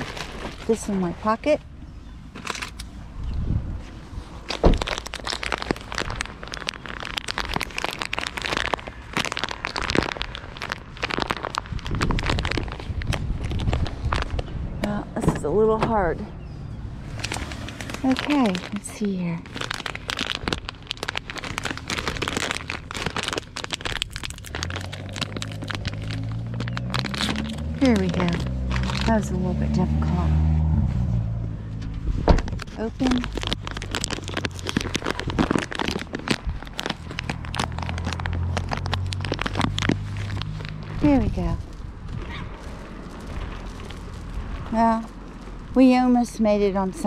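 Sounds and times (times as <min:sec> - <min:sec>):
bag of peanuts crackling: 0:00.0 - 0:01.4, 0:04.4 - 0:14.5, 0:17.1 - 0:30.0, 0:32.4 - 0:47.0
plastic rustling and crinkling: 0:00.0 - 0:01.6, 0:03.8 - 0:14.5, 0:17.1 - 0:30.0, 0:32.0 - 0:47.0
low engine hum: 0:00.0 - 0:47.0.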